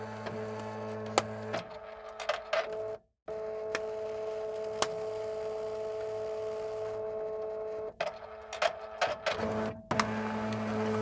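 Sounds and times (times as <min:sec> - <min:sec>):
fax machine low hum: 0:00.0 - 0:11.0
fax machine whine: 0:00.0 - 0:11.0.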